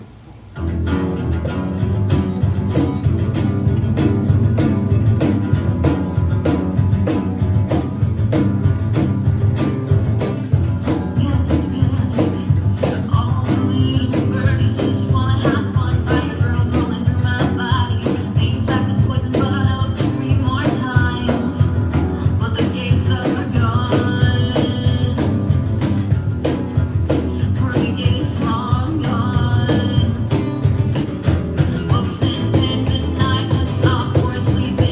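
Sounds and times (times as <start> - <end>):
bass and guitar: 0.0 - 34.9
drums steady beat: 0.0 - 34.9.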